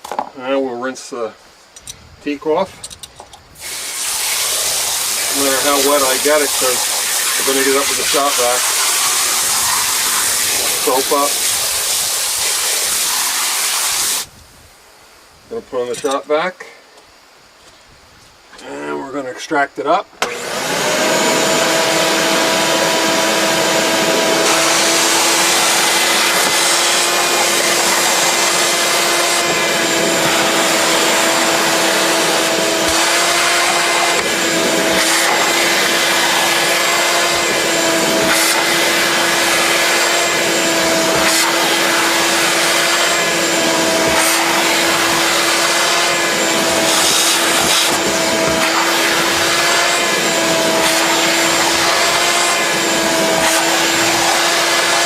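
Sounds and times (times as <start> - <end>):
shop vacuum running: 3.6 - 14.3, 20.2 - 55.0.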